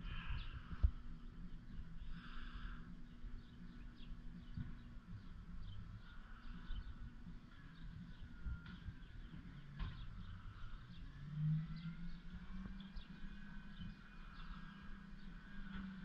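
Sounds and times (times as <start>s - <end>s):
distant truck engine hum: 0.0s - 16.0s
small birds chirping: 0.0s - 16.0s.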